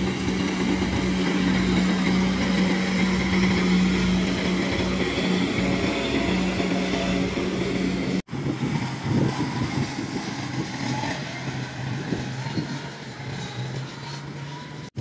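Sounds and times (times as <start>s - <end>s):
diesel engine running close: 0.0s - 15.0s
distant engine drone: 0.0s - 15.0s.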